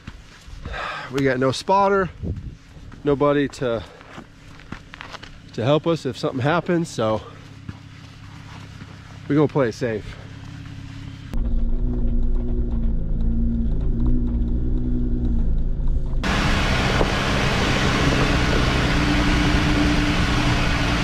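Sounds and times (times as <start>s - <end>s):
vehicle engine low hum: 0.0s - 21.0s.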